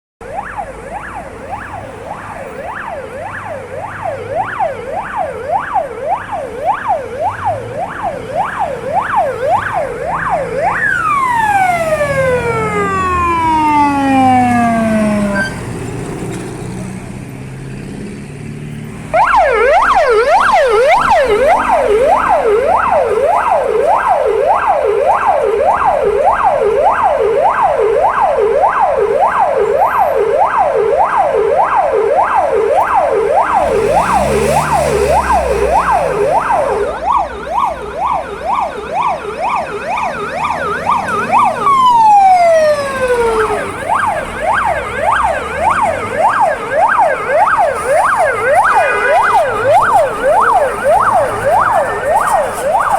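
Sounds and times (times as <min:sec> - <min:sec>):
fire truck siren yelping: 0:00.2 - 0:16.1, 0:19.1 - 0:52.9.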